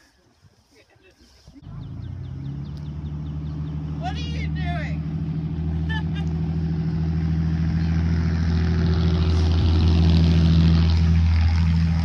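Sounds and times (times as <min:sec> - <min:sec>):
steady engine hum: 0:01.6 - 0:12.0.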